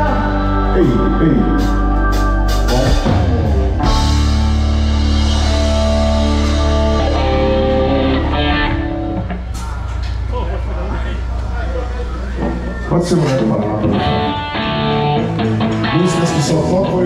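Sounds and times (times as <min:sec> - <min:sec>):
electric guitar sustained chords: 0:00.0 - 0:17.0.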